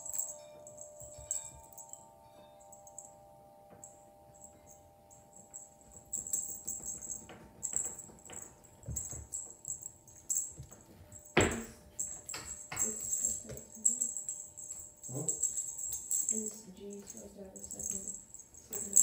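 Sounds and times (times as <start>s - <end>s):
cat toy jingling: 0.0s - 2.0s, 5.3s - 19.0s.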